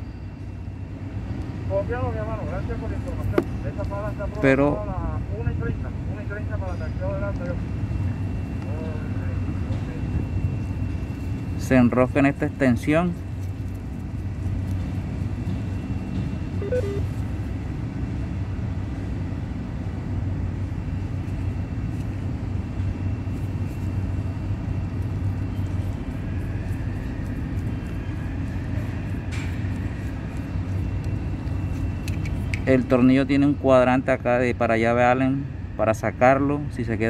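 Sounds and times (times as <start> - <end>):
low mechanical rumble: 0.0 - 37.0.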